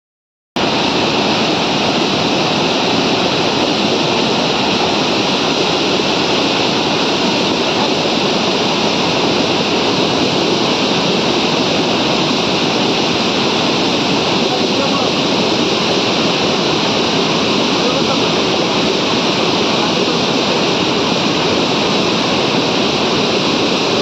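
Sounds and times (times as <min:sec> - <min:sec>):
waterfall rushing: 0:00.6 - 0:24.0.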